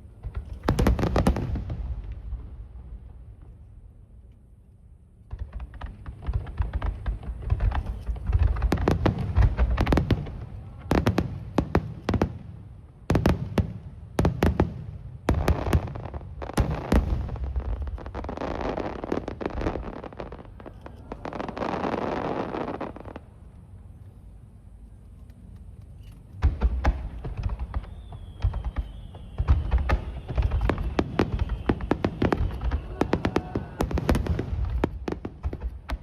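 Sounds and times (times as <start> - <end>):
fireworks bangs: 0.0 - 3.6, 5.3 - 23.4, 26.4 - 36.0.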